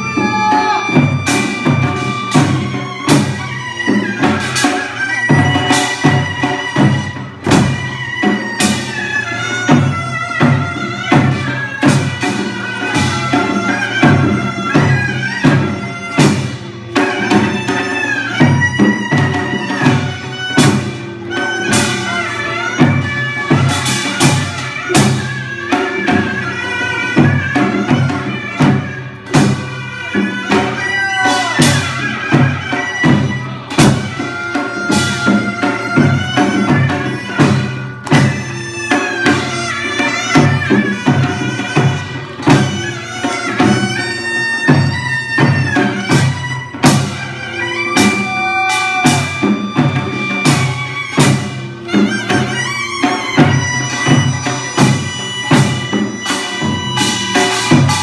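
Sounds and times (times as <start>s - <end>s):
drum strokes: 0.0s - 58.0s
reedy wind instrument melody: 0.0s - 58.0s.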